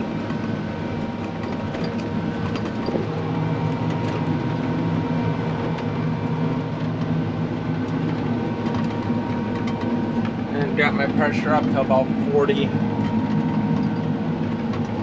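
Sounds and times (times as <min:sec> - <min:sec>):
engine droning under load: 0:00.0 - 0:15.0.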